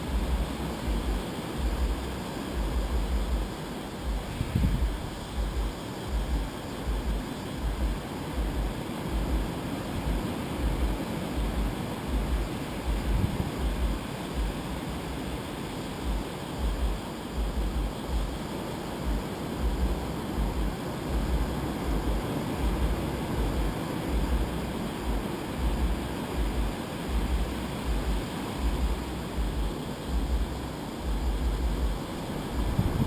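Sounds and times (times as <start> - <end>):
surf on a sandy beach: 0.0 - 33.0
wind buffeting microphone: 0.0 - 33.0.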